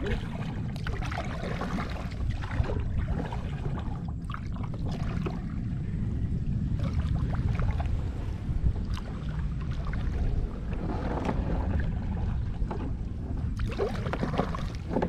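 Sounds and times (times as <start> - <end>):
steady low rumble: 0.0 - 15.0
water splashing around kayak: 0.0 - 15.0.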